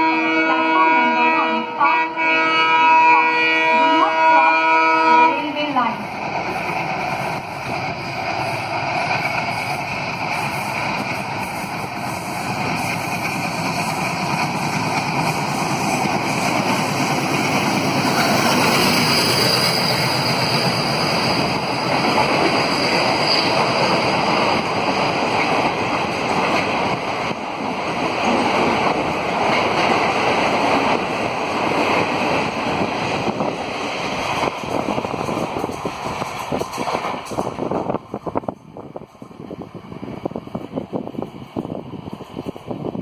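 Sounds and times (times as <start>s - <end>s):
diesel locomotive passing: 0.0s - 43.0s
train wheels rumbling on rails: 3.7s - 43.0s.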